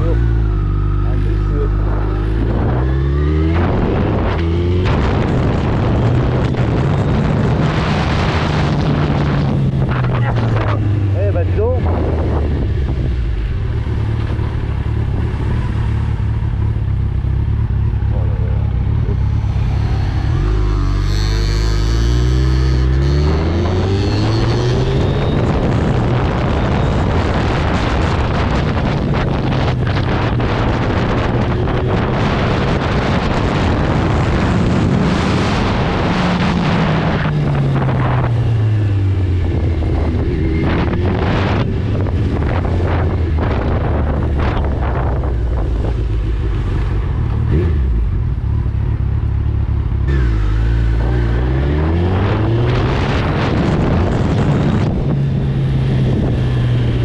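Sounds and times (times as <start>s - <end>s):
wind noise on microphone: 0.0s - 16.9s, 19.0s - 49.0s, 49.8s - 57.0s
motorcycle engine revving: 0.0s - 57.0s.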